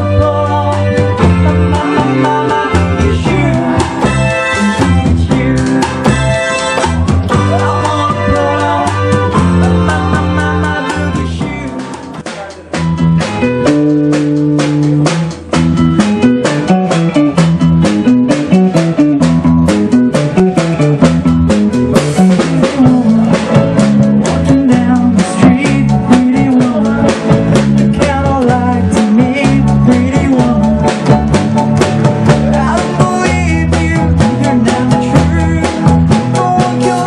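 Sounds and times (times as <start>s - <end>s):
live band playing upbeat music: 0.0s - 37.0s
steady drum beat: 0.0s - 37.0s.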